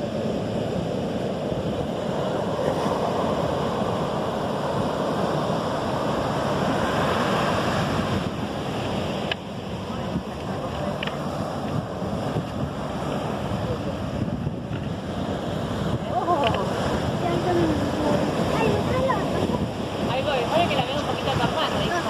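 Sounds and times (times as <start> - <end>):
ocean waves breaking: 0.0 - 22.0
wind buffeting microphone: 0.0 - 22.0.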